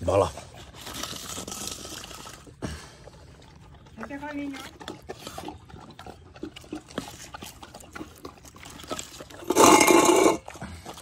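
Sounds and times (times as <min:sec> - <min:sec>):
dog lapping and slurping: 0:00.0 - 0:11.0
dogs eating from a metal bowl: 0:00.0 - 0:11.0.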